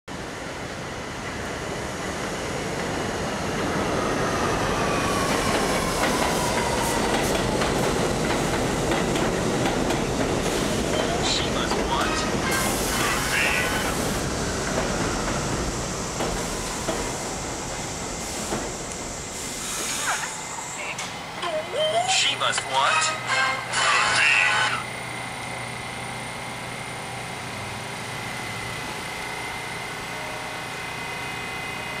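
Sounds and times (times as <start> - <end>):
subway train rumbling past: 0.1 - 32.0.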